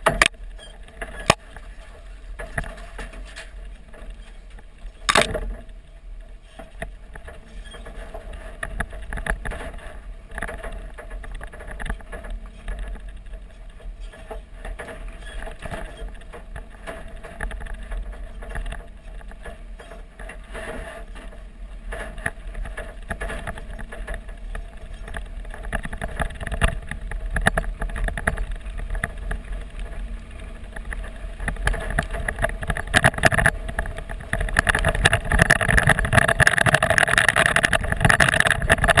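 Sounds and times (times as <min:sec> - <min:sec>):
truck body rattling over bumps: 0:06.8 - 0:39.0.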